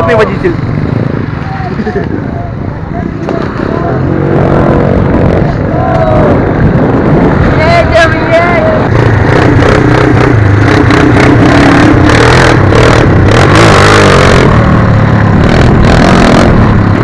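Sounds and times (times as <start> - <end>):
small motorcycle engines running: 0.0 - 17.0.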